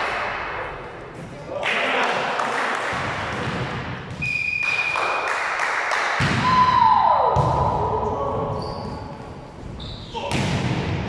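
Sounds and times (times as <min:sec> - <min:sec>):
volleyball hits in echoing gym: 0:00.0 - 0:11.0.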